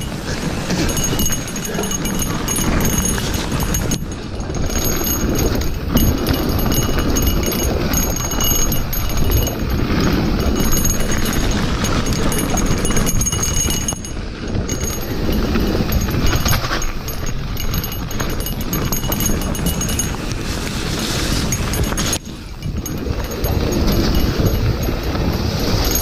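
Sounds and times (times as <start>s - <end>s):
bike rattling over bumps: 0.0s - 26.0s
tyres rumbling on gravel: 0.0s - 26.0s
wind on microphone: 0.0s - 26.0s.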